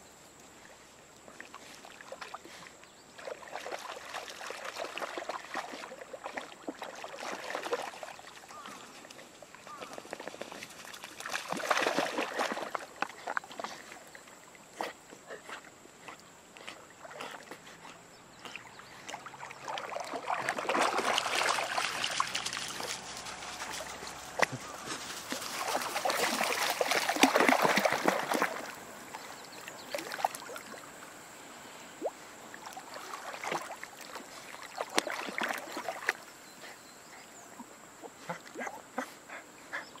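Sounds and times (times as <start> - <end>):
water splashing and sloshing: 0.4 - 36.7.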